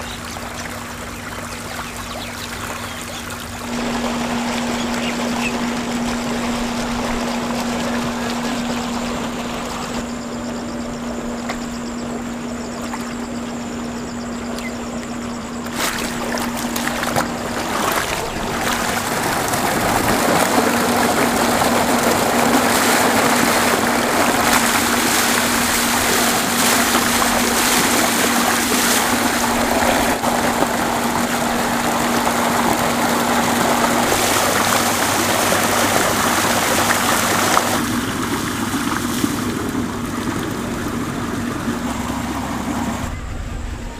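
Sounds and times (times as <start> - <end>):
water gushing from pipe into tank: 0.0 - 10.0, 15.6 - 43.1
pump motor humming: 0.0 - 43.9
water flowing in channel: 0.0 - 43.9.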